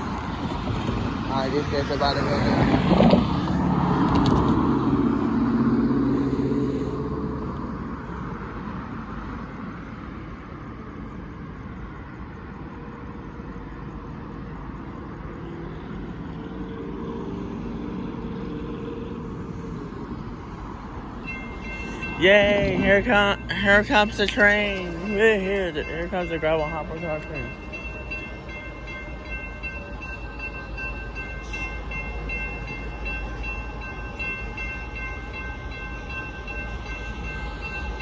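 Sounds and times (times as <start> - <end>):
vehicle passing: 0.0 - 9.9, 15.2 - 38.0
steady traffic noise: 0.0 - 38.0.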